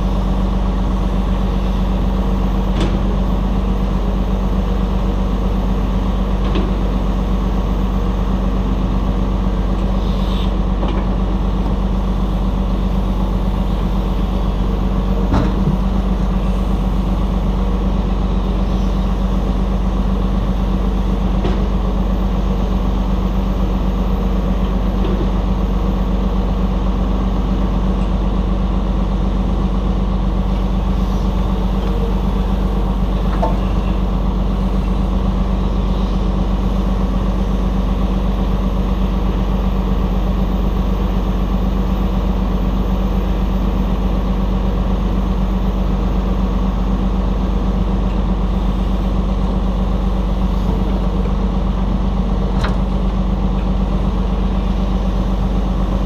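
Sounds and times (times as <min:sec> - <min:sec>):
heavy equipment diesel drone: 0:00.0 - 0:56.0.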